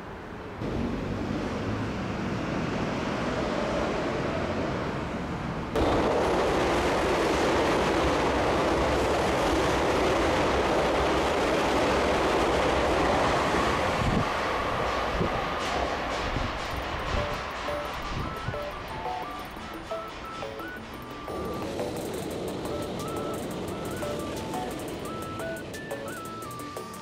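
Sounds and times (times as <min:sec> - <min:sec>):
electric train rolling on rails: 0:00.0 - 0:27.0.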